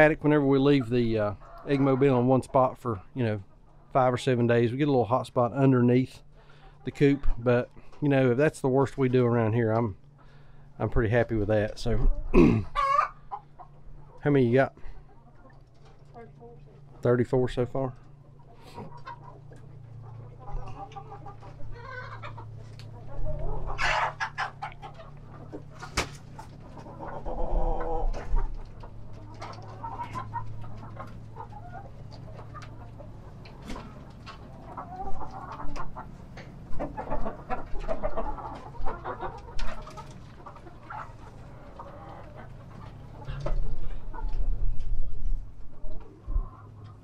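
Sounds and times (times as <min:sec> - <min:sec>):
hens clucking: 0:00.0 - 0:47.0.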